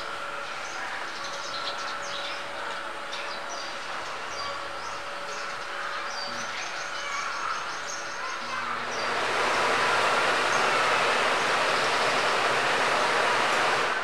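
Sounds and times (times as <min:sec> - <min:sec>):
blower fan motor running: 0:00.0 - 0:14.0.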